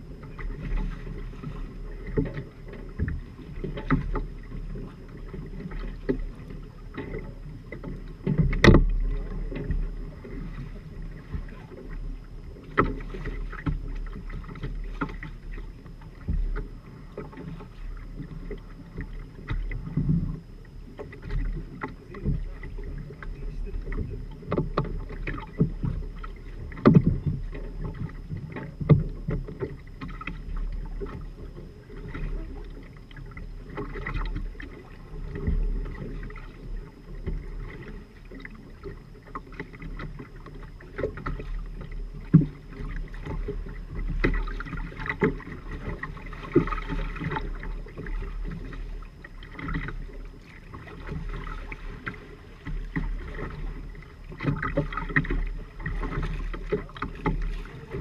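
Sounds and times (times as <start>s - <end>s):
water slapping against hulls: 0.0s - 58.0s
wind rumble on microphone: 0.0s - 58.0s.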